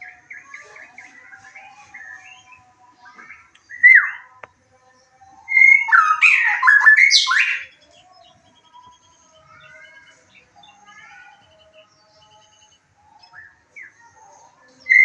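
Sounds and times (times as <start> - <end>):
songbird singing varied phrases: 0.0 - 15.0.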